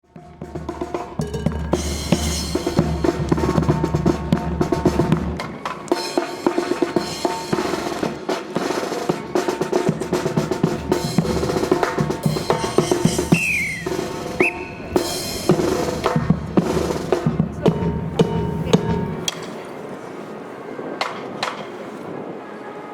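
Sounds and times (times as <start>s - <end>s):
marching band drums: 0.0s - 19.6s
snare drum rolls: 0.2s - 19.5s.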